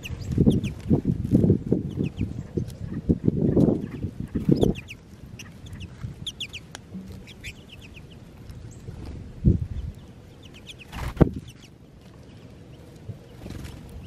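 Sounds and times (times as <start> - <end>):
goldfinches twittering: 0.0 - 0.8, 1.8 - 8.9, 9.5 - 14.0.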